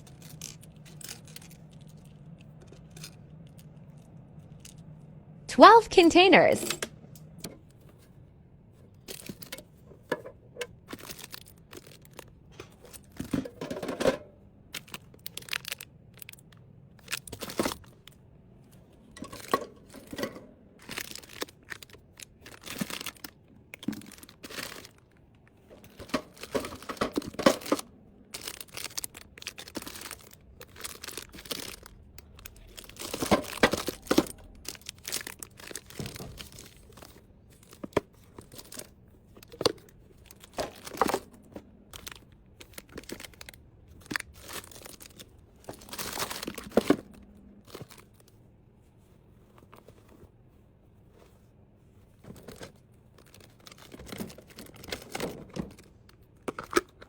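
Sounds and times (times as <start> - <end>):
plastic packaging crinkling and tearing: 0.0 - 5.1, 8.9 - 9.8, 10.6 - 13.4, 14.6 - 18.2, 19.0 - 48.4, 52.1 - 57.0.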